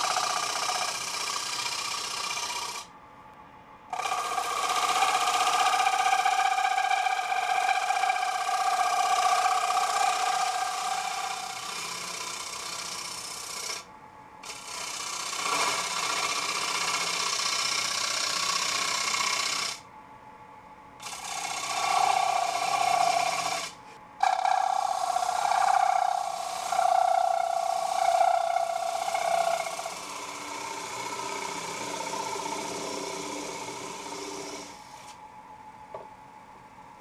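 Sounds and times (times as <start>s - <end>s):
wood lathe cut squealing: 0.0s - 2.8s, 3.9s - 13.8s, 14.4s - 19.8s, 21.0s - 35.1s.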